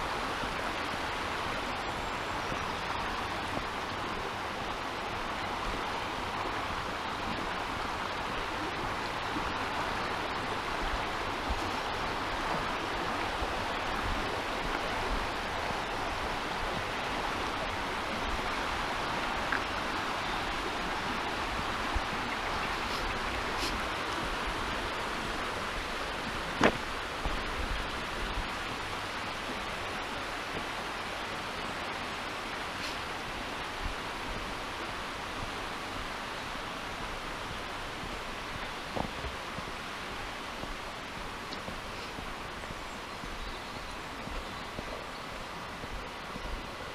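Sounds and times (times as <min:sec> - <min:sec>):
stream rushing over stones: 0:00.0 - 0:46.9.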